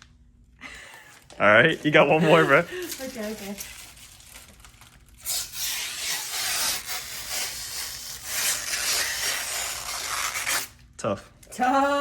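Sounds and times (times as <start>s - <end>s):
plastic film peeling: 1.2s - 10.8s.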